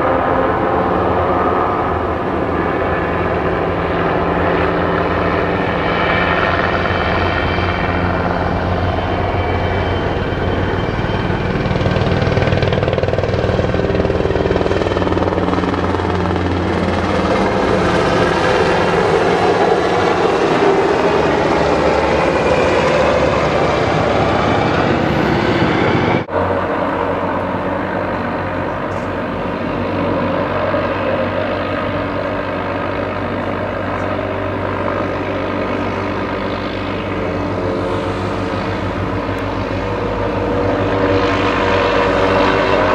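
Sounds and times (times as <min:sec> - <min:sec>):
helicopters flying overhead: 0:00.0 - 0:42.9.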